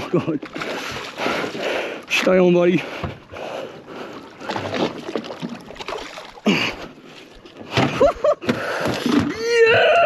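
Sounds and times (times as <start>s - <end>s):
water splashing beside boat: 0.0s - 9.9s.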